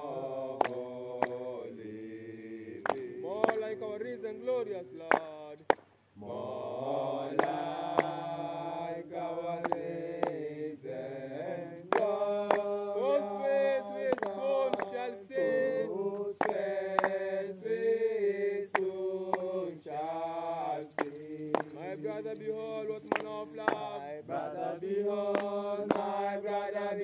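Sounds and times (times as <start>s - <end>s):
voices chanting a hymn: 0.0s - 27.0s.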